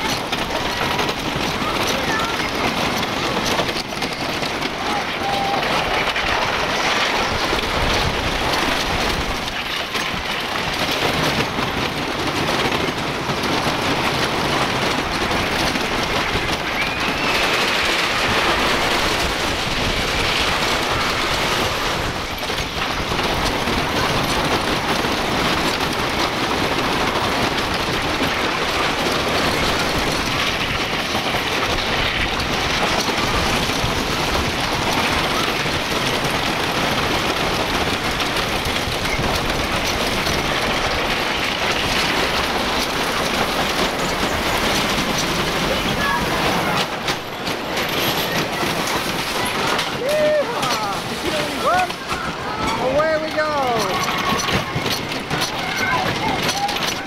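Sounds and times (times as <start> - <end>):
roller coaster rumbling on track: 0.0 - 57.0.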